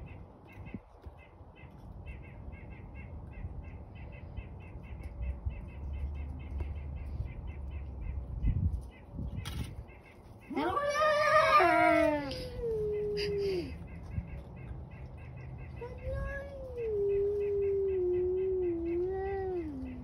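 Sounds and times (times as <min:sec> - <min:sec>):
bird chirping: 0:00.0 - 0:20.0
steady low rumble: 0:00.0 - 0:20.0.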